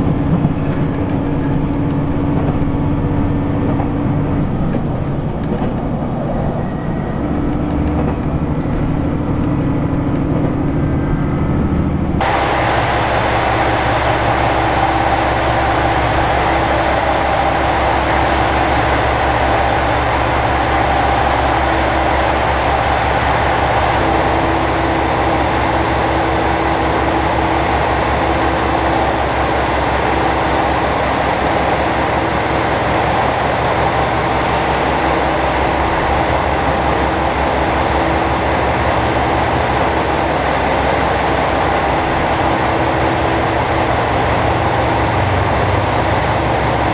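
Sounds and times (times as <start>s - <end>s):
diesel railcar engine idling: 0.0s - 46.9s.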